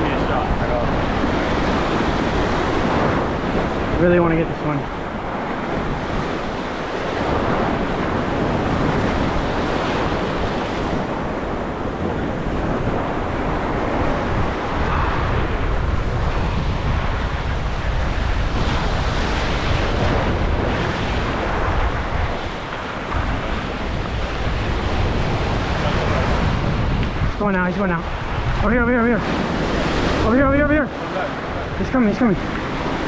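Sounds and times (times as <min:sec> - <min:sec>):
surf breaking over rocks: 0:00.0 - 0:33.0
wind buffeting microphone: 0:00.0 - 0:33.0.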